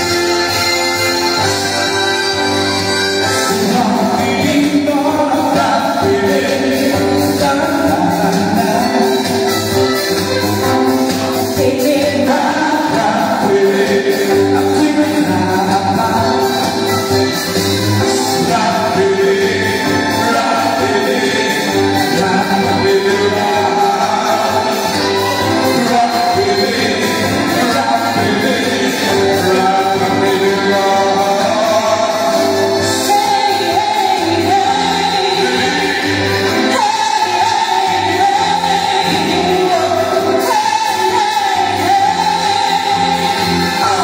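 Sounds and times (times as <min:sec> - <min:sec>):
man singing into microphone: 0:00.0 - 0:10.0, 0:11.1 - 0:44.0
live amplified music: 0:00.0 - 0:44.0.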